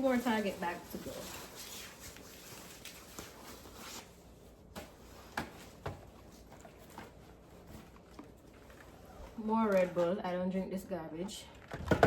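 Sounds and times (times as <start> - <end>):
plastic bags rustling: 0.0 - 10.5.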